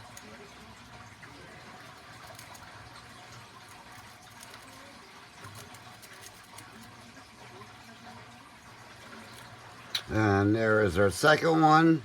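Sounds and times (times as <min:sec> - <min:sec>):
steady hiss and hum: 0:00.0 - 0:12.0.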